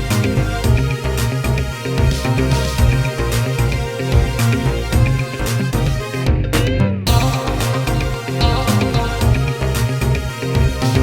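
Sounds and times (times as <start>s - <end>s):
electronic music with strong bass: 0.0s - 11.0s.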